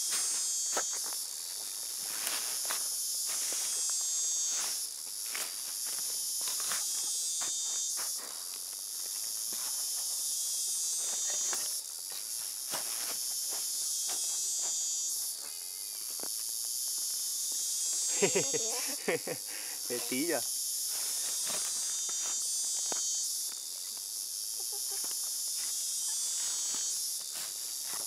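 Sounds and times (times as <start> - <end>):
insect chorus buzzing: 0.0 - 28.0.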